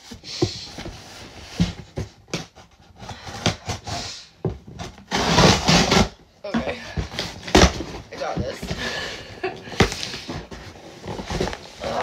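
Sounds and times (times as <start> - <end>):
cardboard box knocks and scrapes: 0.0 - 12.0.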